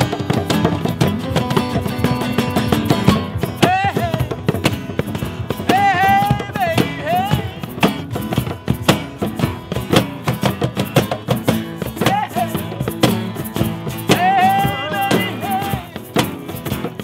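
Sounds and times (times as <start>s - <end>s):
hand drums: 0.0s - 17.0s
strummed acoustic guitars: 0.0s - 17.0s.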